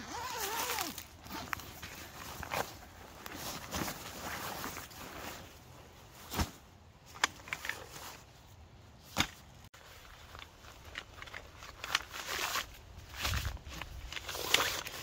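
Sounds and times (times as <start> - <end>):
nylon sack rustling: 0.0 - 15.0.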